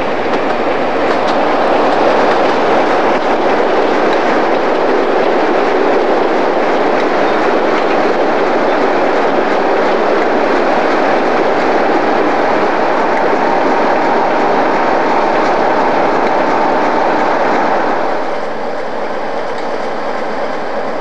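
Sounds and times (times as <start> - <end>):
diesel train rumbling: 0.0 - 21.0.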